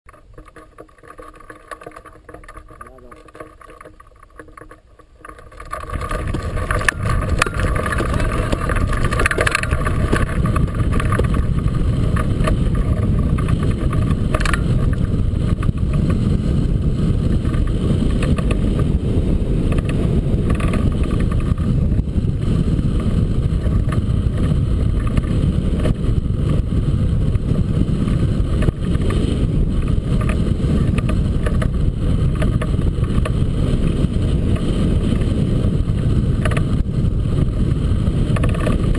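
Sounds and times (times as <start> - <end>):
wind rushing over microphone: 5.4 - 38.9.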